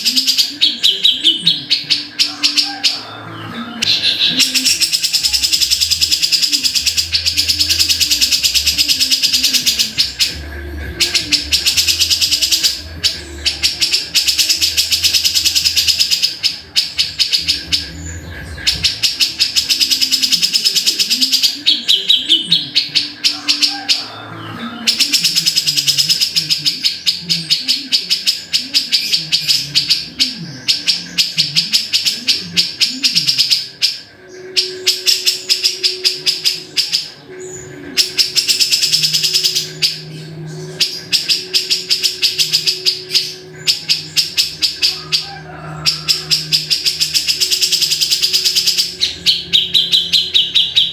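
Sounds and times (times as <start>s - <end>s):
bird calling harsh rattling notes: 0.0s - 50.9s.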